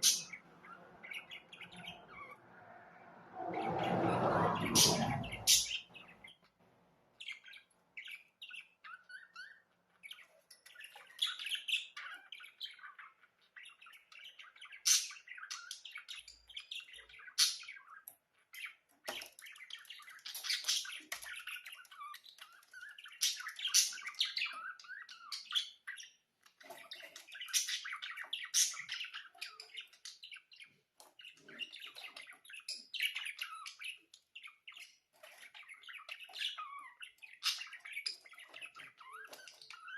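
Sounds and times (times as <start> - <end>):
budgerigars chirping and chattering: 0.0 - 2.5, 3.6 - 39.9.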